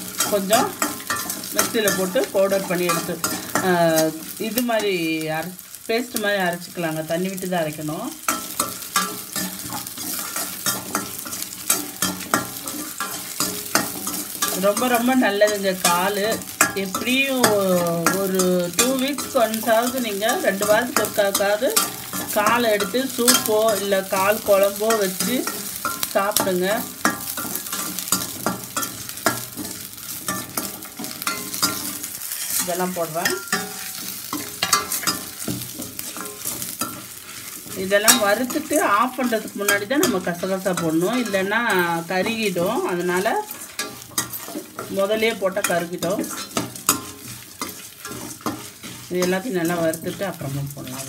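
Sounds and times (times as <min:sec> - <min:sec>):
food sizzling in oil: 0:00.0 - 0:51.0
ladle scraping metal pan: 0:08.3 - 0:51.0.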